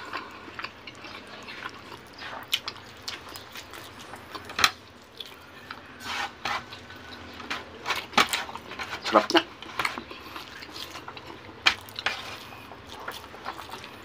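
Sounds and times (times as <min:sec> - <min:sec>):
person chewing wetly: 0:00.0 - 0:14.0.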